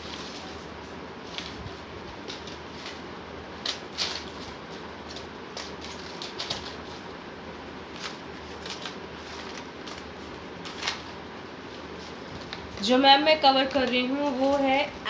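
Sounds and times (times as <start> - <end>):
rustles of small items moved: 0.0 - 13.0, 13.7 - 15.0
steady background hiss: 0.0 - 15.0.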